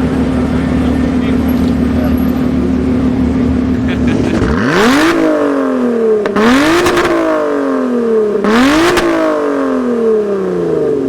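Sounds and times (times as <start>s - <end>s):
car engine revving hard: 0.0s - 10.1s.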